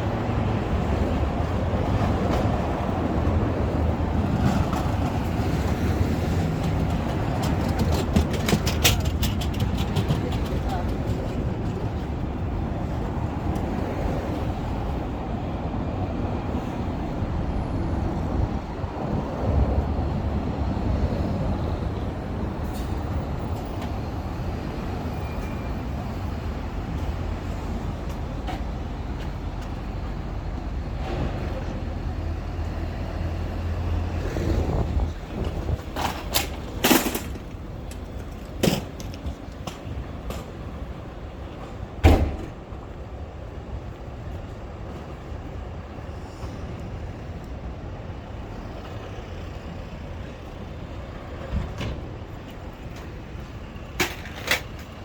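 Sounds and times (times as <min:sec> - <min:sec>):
passing traffic rumble: 0:00.0 - 0:55.0.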